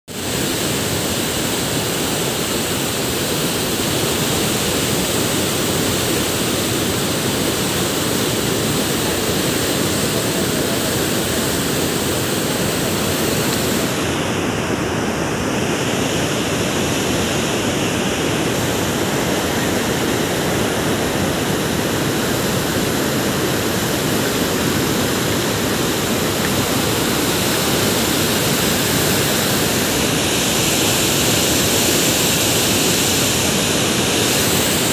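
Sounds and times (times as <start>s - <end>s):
water rushing from dam: 0.1s - 34.9s.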